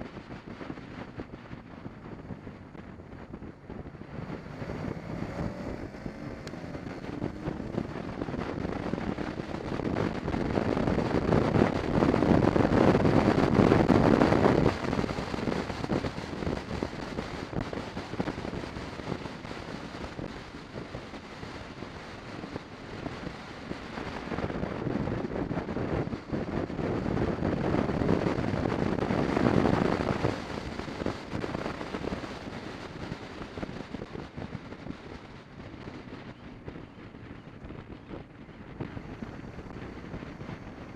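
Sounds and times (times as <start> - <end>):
motorcycle engine: 0.0 - 40.9
wind noise on microphone: 0.0 - 40.9.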